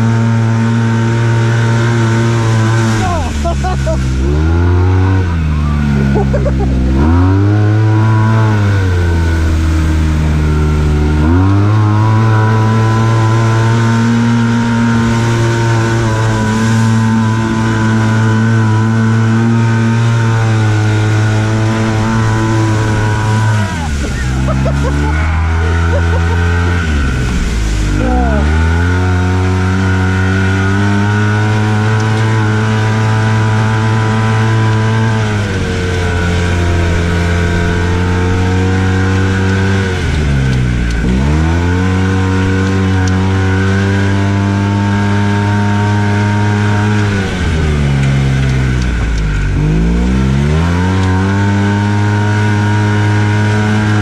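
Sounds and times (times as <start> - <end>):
engine running under throttle: 0.0 - 54.0.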